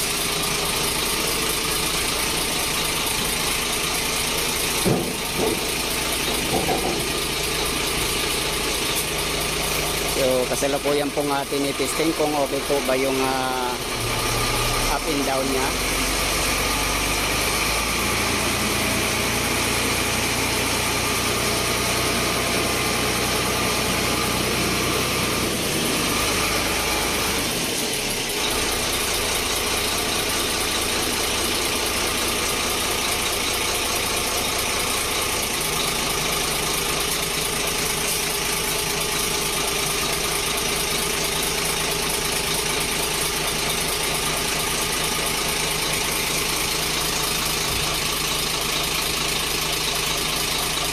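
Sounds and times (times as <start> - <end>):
diesel engine running: 0.0 - 50.9
hydraulic hoist working: 0.0 - 50.9.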